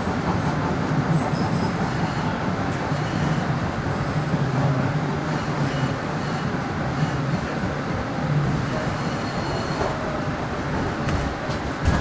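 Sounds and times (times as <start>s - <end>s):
light-rail wheels rumbling on rail: 0.0s - 12.0s.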